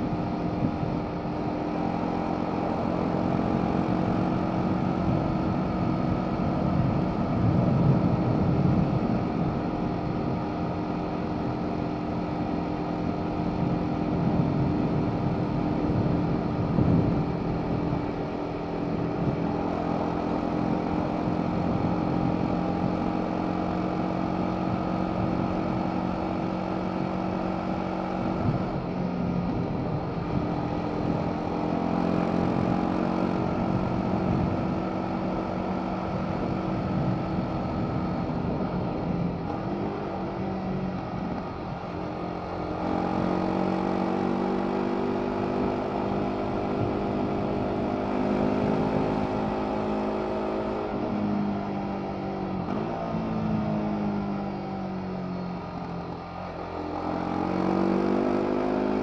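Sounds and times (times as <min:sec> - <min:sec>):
motorcycle engine cruising: 0:00.0 - 0:59.0
rush of riding wind: 0:00.0 - 0:59.0.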